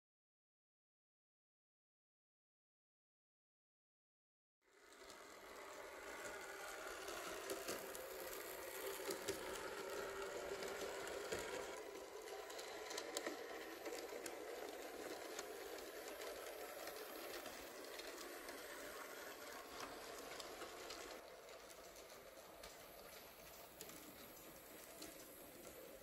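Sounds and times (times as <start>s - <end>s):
model train motors whirring: 4.7s - 26.0s
wheels clicking over rail joints: 4.8s - 26.0s.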